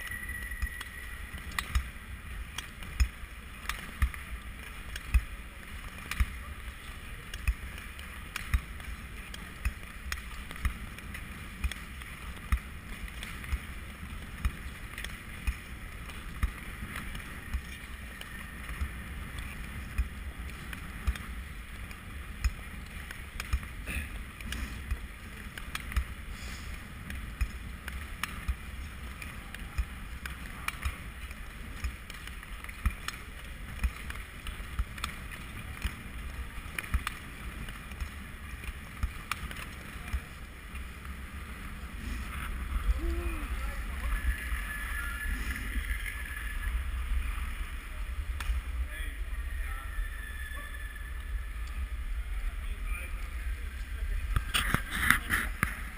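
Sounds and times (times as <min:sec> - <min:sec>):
skate blades scraping on ice: 0:00.5 - 0:47.7, 0:53.8 - 0:55.9.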